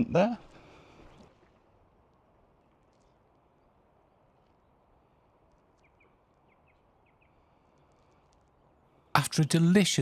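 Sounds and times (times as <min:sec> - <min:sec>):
faint outdoor hiss: 0:00.0 - 0:10.0.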